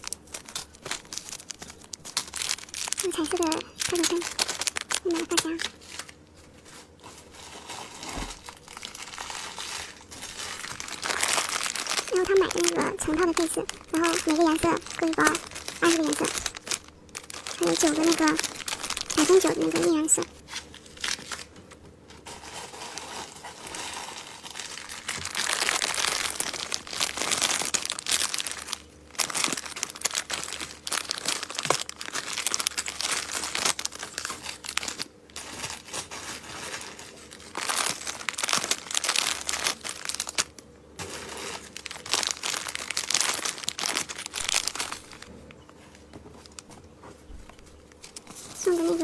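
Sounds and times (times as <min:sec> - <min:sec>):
plastic packaging crinkling: 0:00.0 - 0:49.0.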